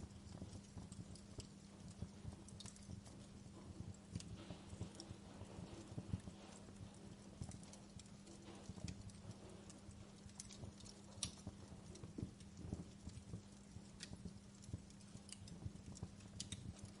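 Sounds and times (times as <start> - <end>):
steady low hum: 0.0 - 17.0
wood fire crackling: 0.0 - 17.0.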